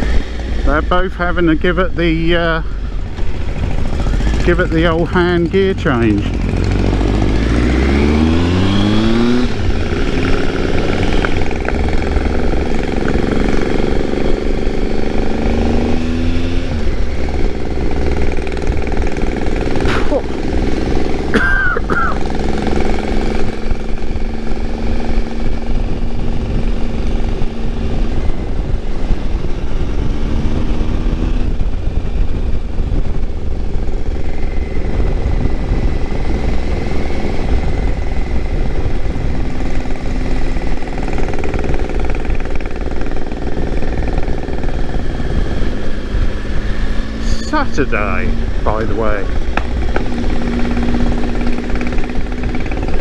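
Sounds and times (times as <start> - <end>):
motorcycle engine cruising: 0.0 - 53.0
wind rushing over microphone: 0.0 - 53.0.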